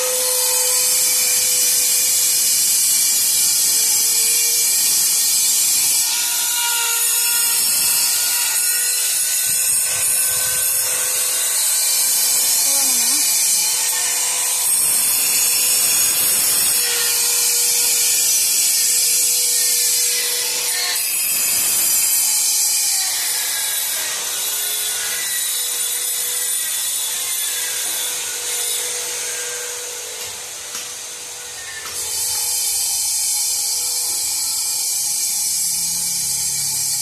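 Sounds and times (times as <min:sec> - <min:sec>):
power tool grinding stone: 0:00.0 - 0:37.0.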